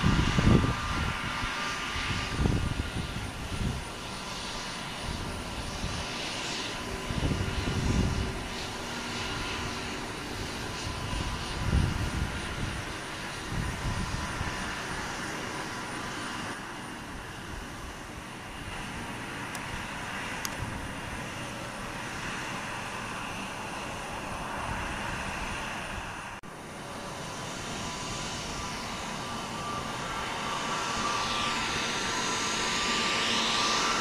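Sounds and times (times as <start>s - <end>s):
jet engines at taxi power: 0.0s - 34.0s
steady high engine tones: 0.0s - 34.0s.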